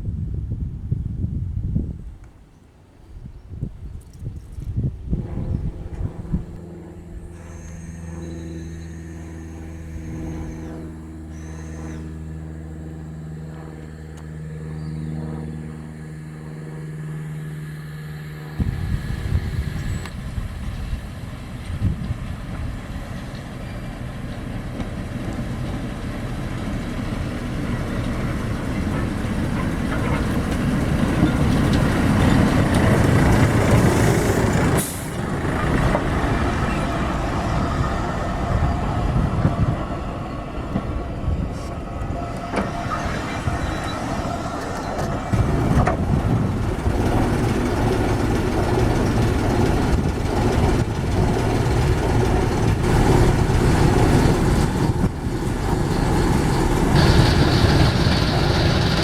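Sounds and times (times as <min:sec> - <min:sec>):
train rumbling along track: 0:00.0 - 0:59.0
locomotive engine humming: 0:02.0 - 0:59.0.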